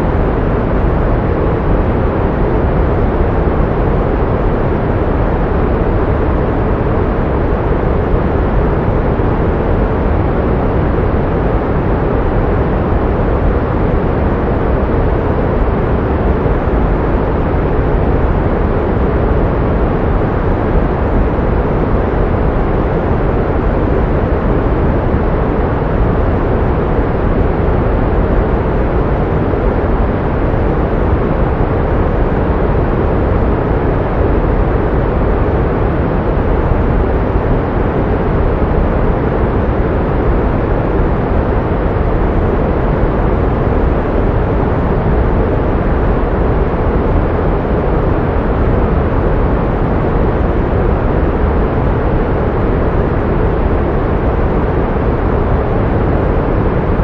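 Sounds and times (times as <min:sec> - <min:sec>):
pink noise: 0:00.0 - 0:57.0.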